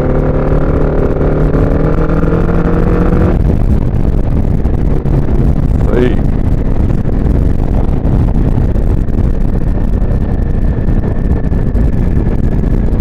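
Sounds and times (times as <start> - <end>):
motorcycle engine running: 0.0 - 13.0
road noise: 0.0 - 13.0
wind buffeting microphone: 0.0 - 13.0.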